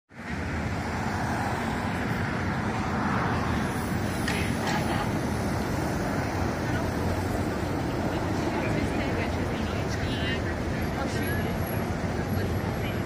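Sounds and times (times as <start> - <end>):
passing vehicles rushing: 0.1 - 13.0.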